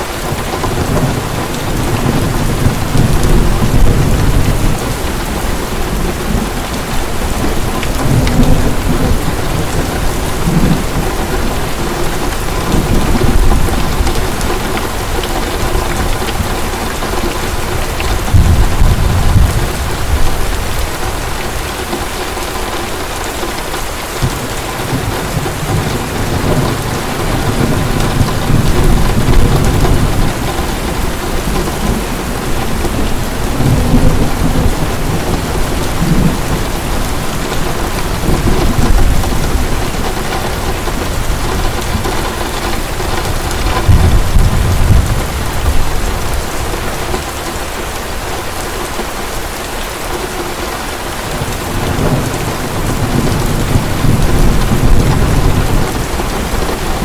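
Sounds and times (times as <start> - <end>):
distant thunder rumbling: 0.0 - 47.7, 51.2 - 57.0
heavy rain falling: 0.0 - 57.0.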